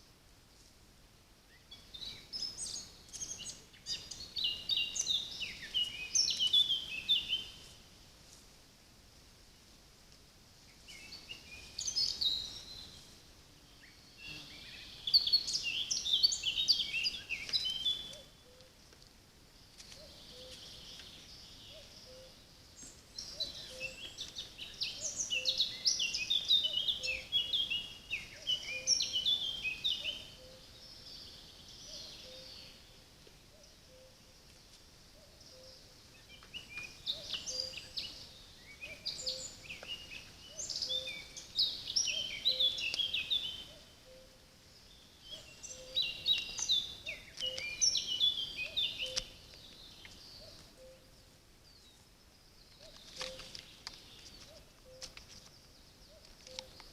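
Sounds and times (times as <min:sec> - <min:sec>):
songbird twittering: 0:01.5 - 0:07.7, 0:10.7 - 0:18.7, 0:20.0 - 0:34.3, 0:35.2 - 0:52.0, 0:52.6 - 0:56.9.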